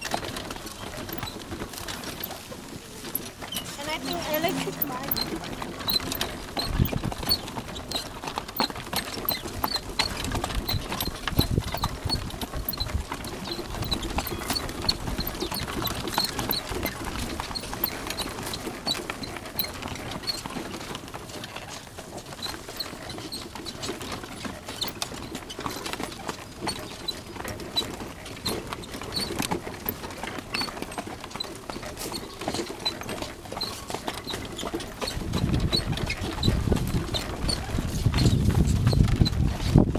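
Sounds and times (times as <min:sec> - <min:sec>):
cart clicking and knocking: 0:00.0 - 0:39.9
horse hooves clopping on dirt: 0:00.0 - 0:39.9.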